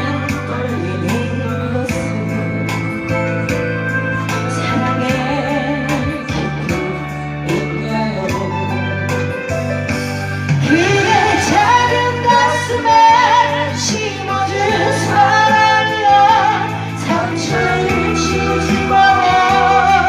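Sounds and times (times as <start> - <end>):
karaoke backing track: 0.0 - 20.0
person singing pop song: 0.0 - 20.0.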